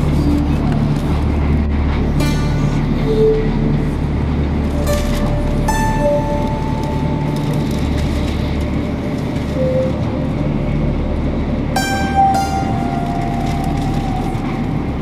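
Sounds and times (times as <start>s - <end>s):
train rumble inside cabin: 0.0s - 15.0s.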